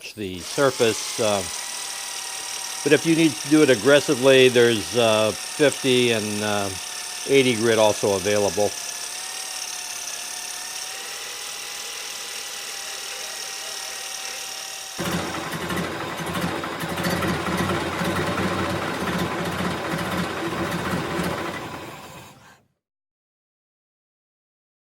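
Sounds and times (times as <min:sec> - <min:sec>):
electric drill motor whine: 0:00.4 - 0:22.6.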